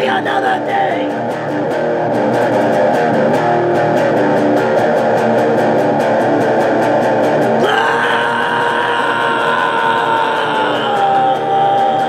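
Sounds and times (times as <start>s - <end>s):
electric guitar heavy metal riff: 0.0s - 12.0s.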